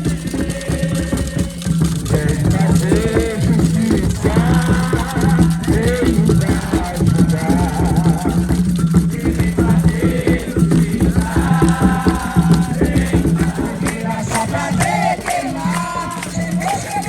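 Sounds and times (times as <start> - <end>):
drums beating fast rhythm: 0.0 - 17.0
rattles shaking: 0.0 - 17.0
voices singing: 0.0 - 17.0.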